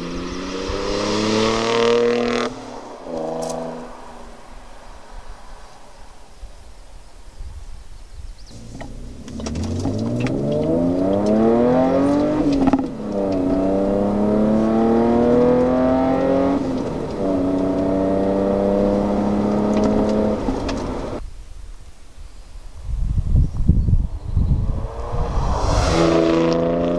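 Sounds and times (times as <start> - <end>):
car exhaust accelerating: 0.0 - 6.1, 8.5 - 21.2, 23.5 - 26.9.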